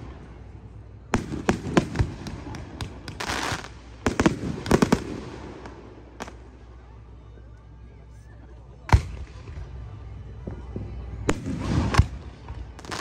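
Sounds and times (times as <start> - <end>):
fireworks bangs and crackles: 0.0 - 6.6, 8.9 - 13.0.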